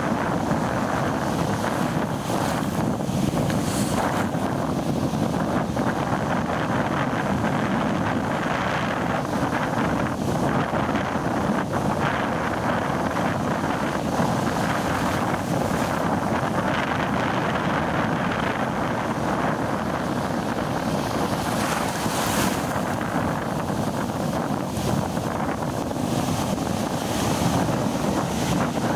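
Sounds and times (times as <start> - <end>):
ocean surf breaking: 0.0 - 28.9
wind buffeting microphone: 0.0 - 28.9.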